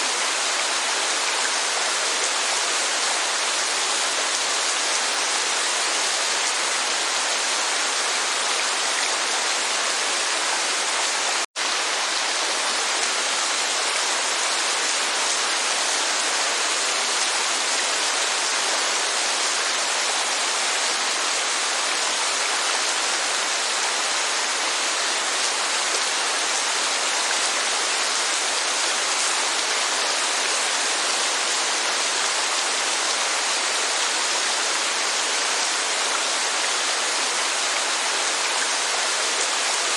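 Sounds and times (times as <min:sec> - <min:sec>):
rain and falling water: 0:00.0 - 0:39.9.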